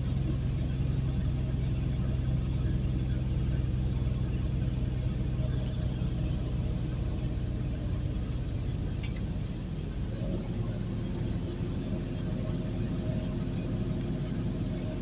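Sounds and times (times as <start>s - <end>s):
faint steady hum: 0.0s - 15.0s
truck engine and tyre drone: 0.0s - 15.0s.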